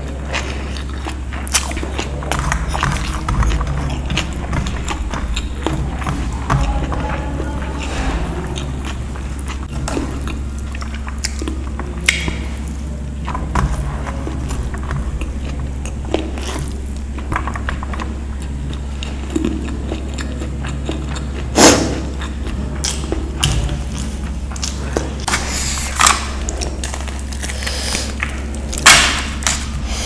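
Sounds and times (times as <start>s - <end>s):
chewing with wet mouth sounds: 0.0s - 30.0s
steady low hum: 0.0s - 30.0s.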